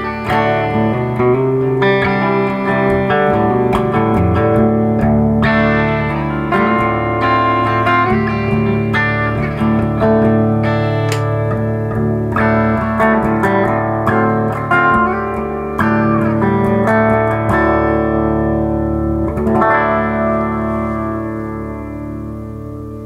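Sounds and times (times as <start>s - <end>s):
electric guitar chords strummed: 0.0s - 23.0s.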